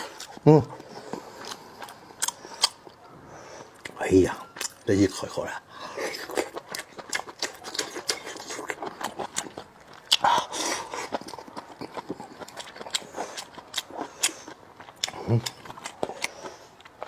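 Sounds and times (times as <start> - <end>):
chewing and lip-smacking: 0.0 - 17.0.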